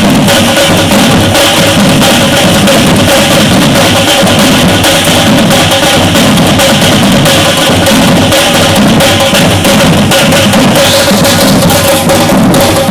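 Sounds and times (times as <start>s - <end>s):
samba drum ensemble: 0.0s - 12.9s.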